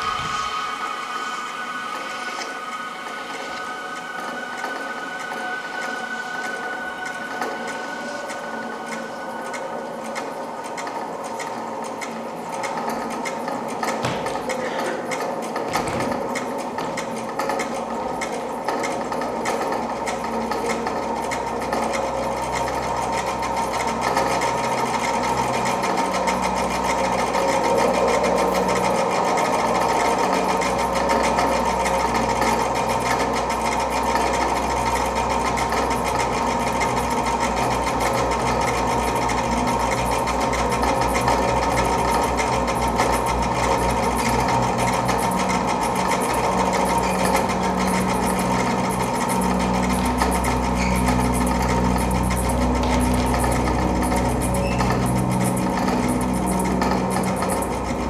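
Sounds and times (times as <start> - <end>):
fast machine-like rattle: 0.0 - 58.0
low hum: 0.0 - 58.0.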